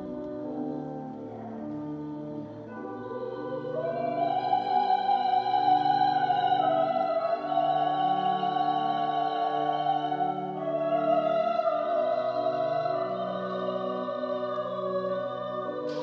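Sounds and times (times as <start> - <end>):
pipe organ chords: 0.0 - 16.0.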